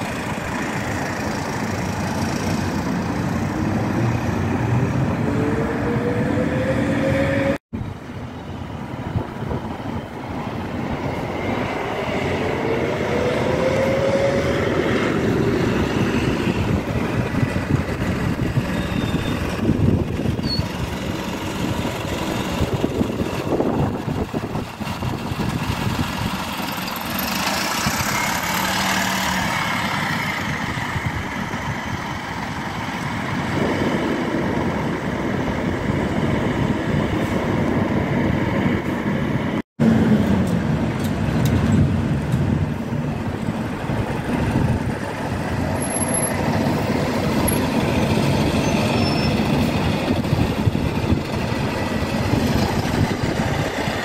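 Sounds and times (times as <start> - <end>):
diesel bus engine accelerating: 0.0 - 54.0.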